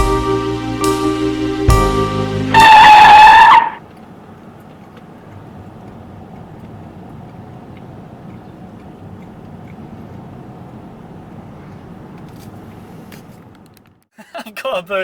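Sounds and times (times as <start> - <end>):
car engine rumble: 0.0 - 14.1.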